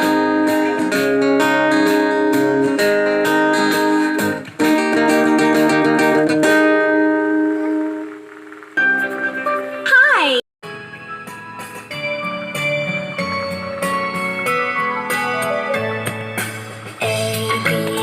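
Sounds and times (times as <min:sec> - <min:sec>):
strummed guitar chords: 0:00.0 - 0:09.8, 0:10.7 - 0:18.0.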